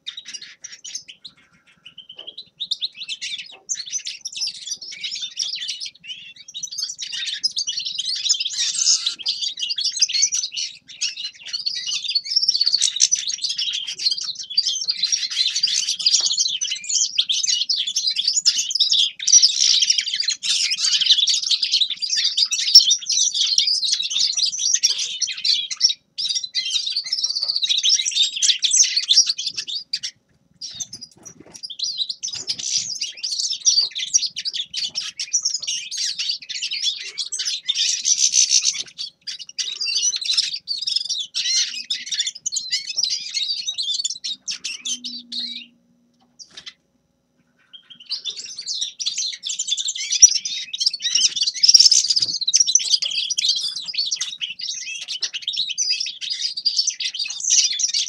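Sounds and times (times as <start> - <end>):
goldfinch twittering song: 0.0 - 45.7, 47.6 - 58.0.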